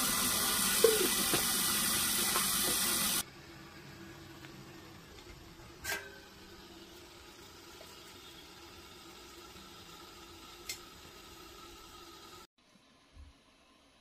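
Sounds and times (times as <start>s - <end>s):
water hissing and bubbling in pot: 0.0s - 12.5s.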